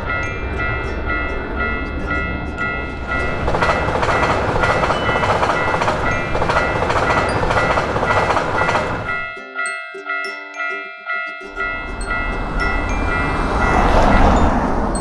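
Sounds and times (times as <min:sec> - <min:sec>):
electric train rushing past: 0:00.0 - 0:09.3, 0:11.5 - 0:15.0
level crossing warning bell: 0:00.0 - 0:15.0.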